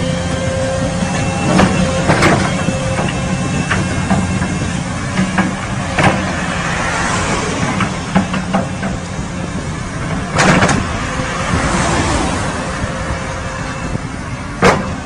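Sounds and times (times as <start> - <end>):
motor vehicle humming: 0.0 - 15.0.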